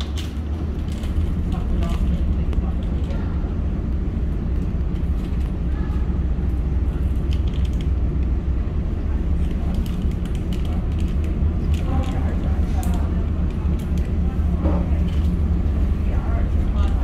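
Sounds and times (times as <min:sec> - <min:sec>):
ferry engine low drone: 0:00.0 - 0:17.0.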